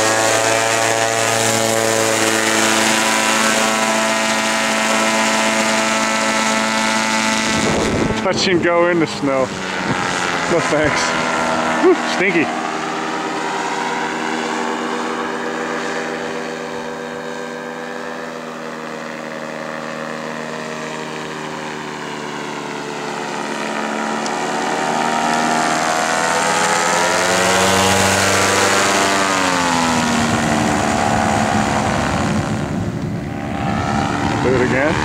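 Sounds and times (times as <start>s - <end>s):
paramotor engine and propeller: 0.0s - 35.0s.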